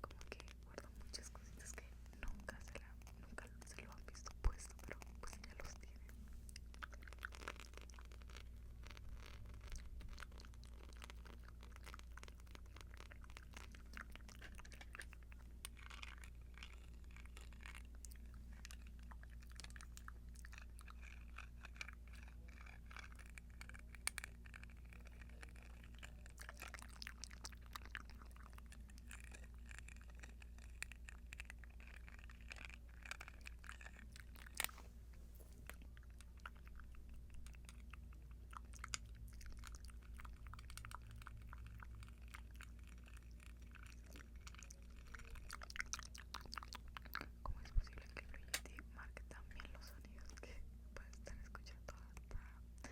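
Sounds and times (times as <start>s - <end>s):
earrings clicking and scratching: 0.0s - 52.9s
steady low hum: 0.0s - 52.9s.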